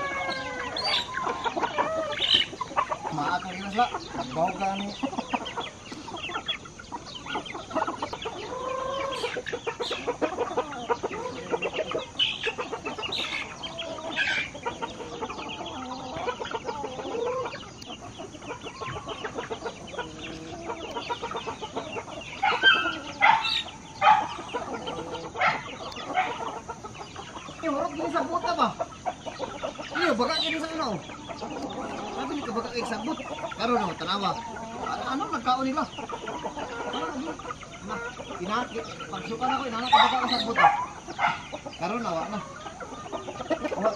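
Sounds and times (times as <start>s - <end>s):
chickens clucking and calling: 0.0s - 43.9s.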